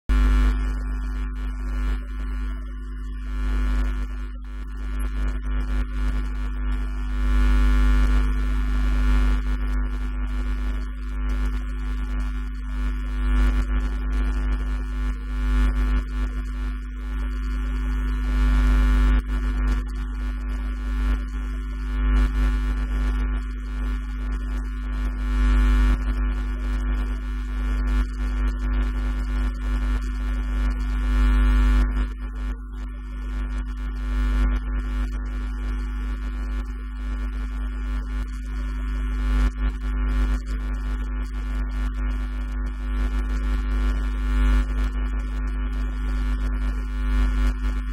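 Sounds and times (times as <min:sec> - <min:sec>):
electrical mains hum: 0:00.1 - 0:47.9.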